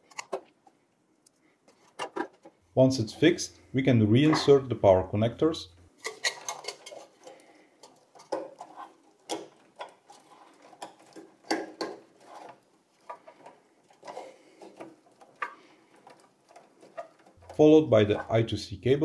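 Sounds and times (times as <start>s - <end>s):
wiring rustling: 0.0s - 4.7s, 5.7s - 19.0s.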